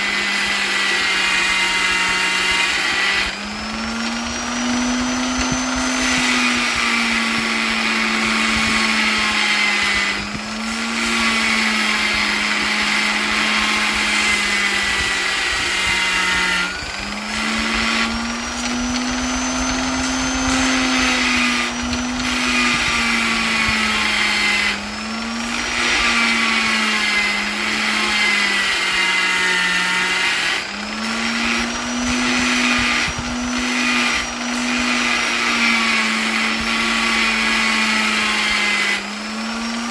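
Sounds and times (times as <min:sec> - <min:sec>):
electric polisher motor whining: 0:00.0 - 0:39.9.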